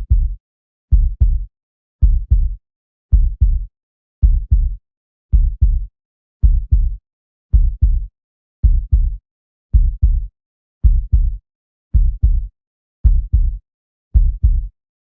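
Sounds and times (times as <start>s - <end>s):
heartbeat: 0.0s - 9.2s, 9.8s - 11.4s, 12.0s - 13.6s, 14.2s - 14.7s.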